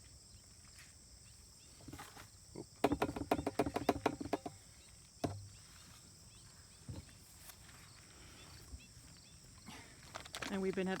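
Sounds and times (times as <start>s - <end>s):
faint insect chirps: 0.0s - 10.6s.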